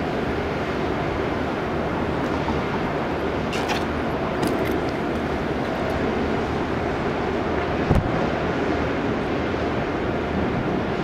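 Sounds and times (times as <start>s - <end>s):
distant jet engines roaring: 0.0s - 11.0s.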